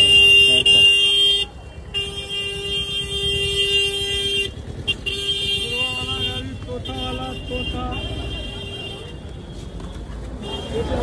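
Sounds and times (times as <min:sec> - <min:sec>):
vehicle horn blaring: 0:00.0 - 0:09.2
low rumble of street noise: 0:00.0 - 0:11.0.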